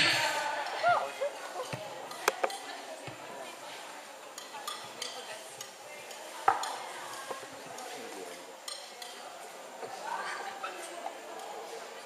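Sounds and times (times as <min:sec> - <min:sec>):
large hall background noise: 0:00.0 - 0:12.0.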